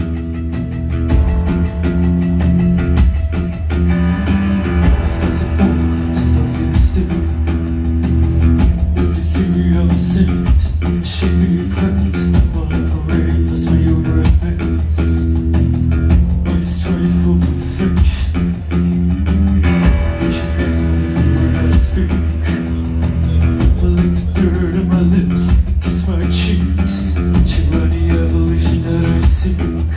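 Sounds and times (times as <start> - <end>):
bass guitar low notes: 0.0 - 29.9
drum kit with cymbals: 0.0 - 29.9
electric guitar: 0.0 - 29.9
keyboards: 0.0 - 29.9.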